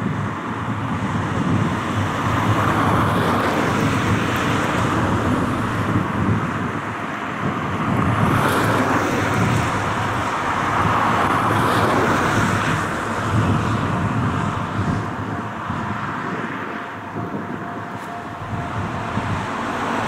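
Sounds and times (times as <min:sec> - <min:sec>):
steady rushing noise: 0:00.0 - 0:20.0
wind blowing over microphone: 0:00.0 - 0:20.0.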